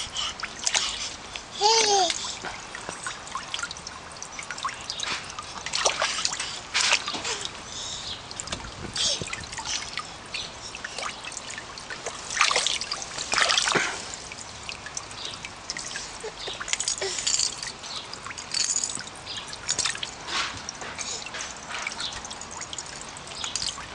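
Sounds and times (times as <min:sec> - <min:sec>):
water splashing and trickling: 0:00.0 - 0:23.9.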